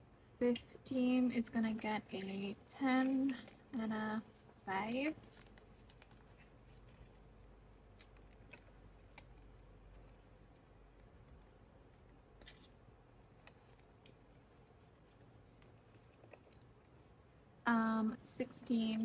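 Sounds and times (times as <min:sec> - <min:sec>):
paper rustling: 0:01.8 - 0:17.3.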